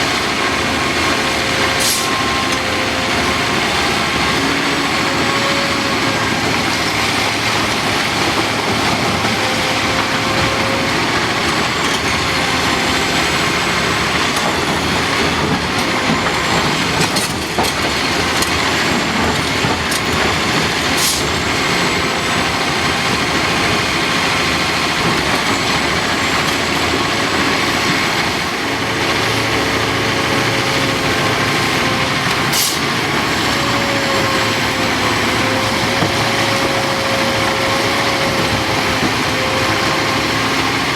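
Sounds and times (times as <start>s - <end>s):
diesel excavator working: 0.0s - 40.9s.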